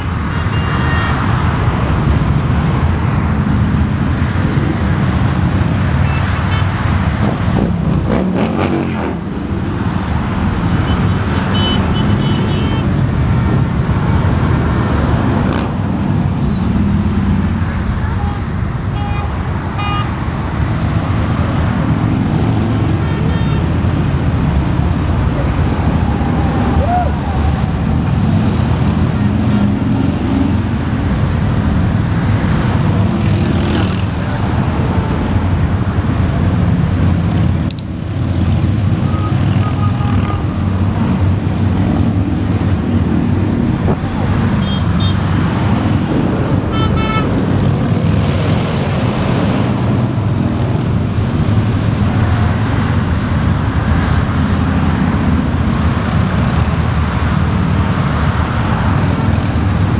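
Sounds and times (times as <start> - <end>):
highway traffic rumble: 0.0 - 59.9.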